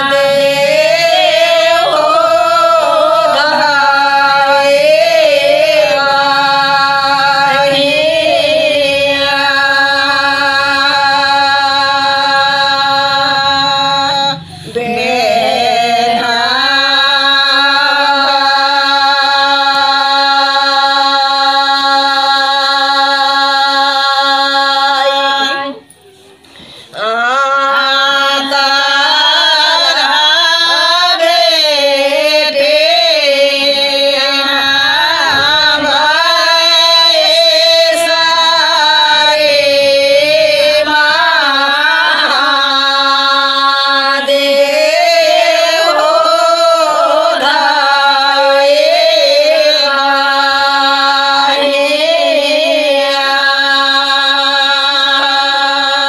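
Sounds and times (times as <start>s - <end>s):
women singing folk song: 0.0s - 56.0s.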